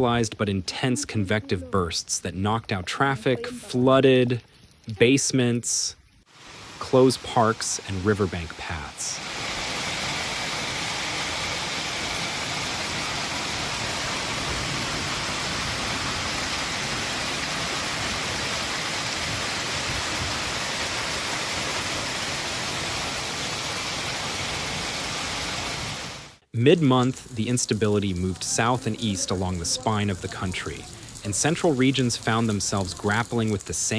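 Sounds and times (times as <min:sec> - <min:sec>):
heavy storm water rushing: 0:00.0 - 0:33.9.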